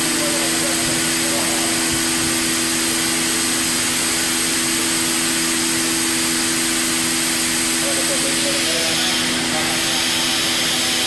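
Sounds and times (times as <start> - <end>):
machining centre hiss and hum: 0.0 - 11.0.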